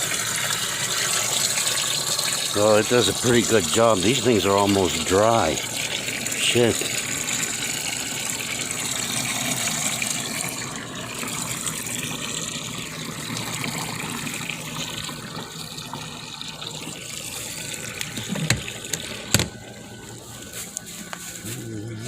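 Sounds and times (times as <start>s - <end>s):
water running into plastic tub: 0.0s - 22.0s.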